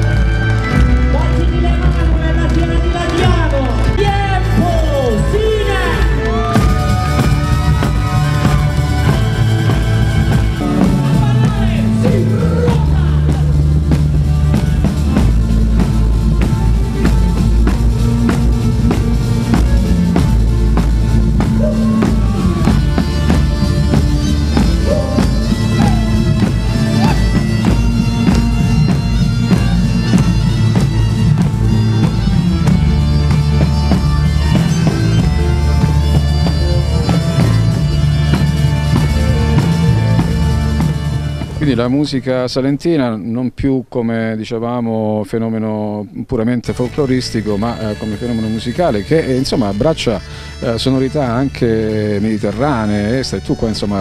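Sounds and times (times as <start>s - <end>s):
crowd clapping along: 0.0s - 42.1s, 46.7s - 54.0s
accordion: 0.0s - 42.2s, 46.4s - 54.0s
bass guitar: 0.0s - 42.7s, 46.7s - 54.0s
drums: 0.0s - 43.0s, 46.6s - 54.0s.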